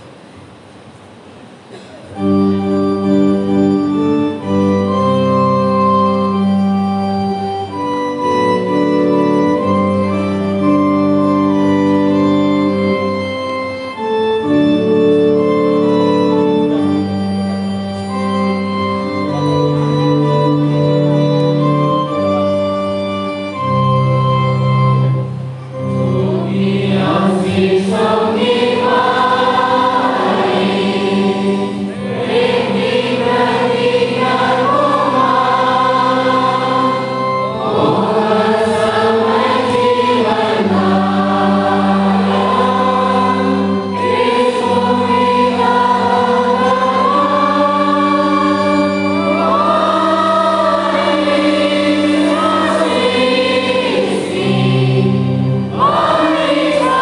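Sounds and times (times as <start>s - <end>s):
organ playing chords: 2.0s - 57.0s
congregation singing a hymn: 2.2s - 57.0s.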